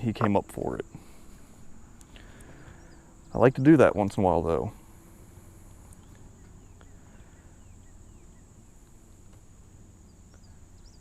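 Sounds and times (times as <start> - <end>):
faint bird chirps: 0.8 - 4.0, 4.7 - 11.0.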